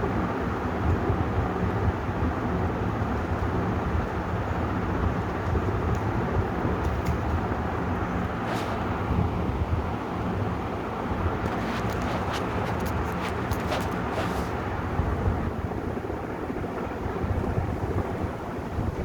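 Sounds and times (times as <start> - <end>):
ceiling fan air rush: 0.0 - 19.0
faint motor hum: 0.0 - 19.0.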